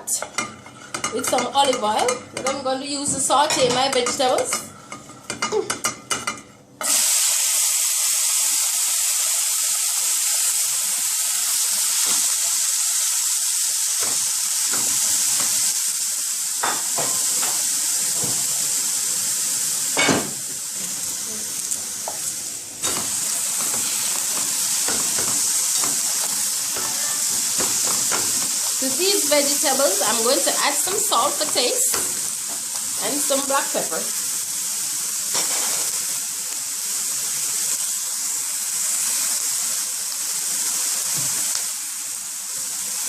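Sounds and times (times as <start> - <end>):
vegetables sizzling in oil: 0.0 - 43.0.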